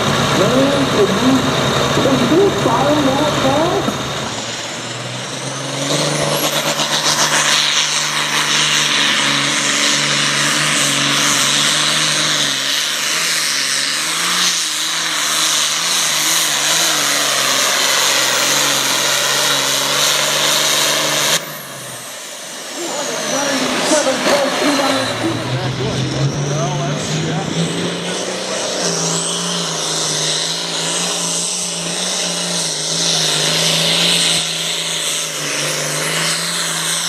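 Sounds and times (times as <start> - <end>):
diesel engine at full throttle: 0.0 - 37.0.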